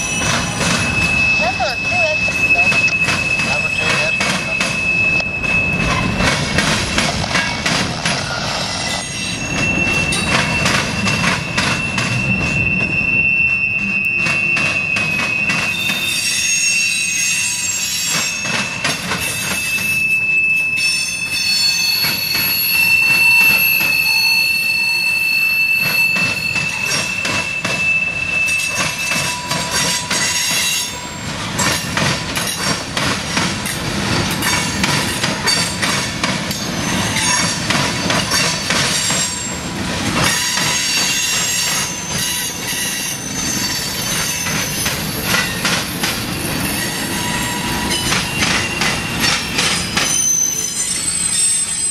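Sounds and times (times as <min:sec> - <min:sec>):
train wheels clattering: 0:00.0 - 0:16.7, 0:17.6 - 0:20.1, 0:21.2 - 0:24.3, 0:25.8 - 0:51.9
thinner higher squeals: 0:00.0 - 0:29.5, 0:39.0 - 0:51.9
high wheel squeal: 0:00.0 - 0:32.7, 0:34.0 - 0:51.9.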